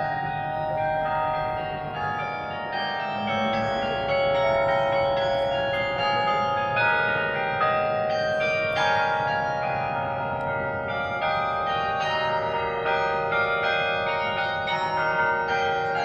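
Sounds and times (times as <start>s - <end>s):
carillon bells playing a melody: 0.0s - 16.0s.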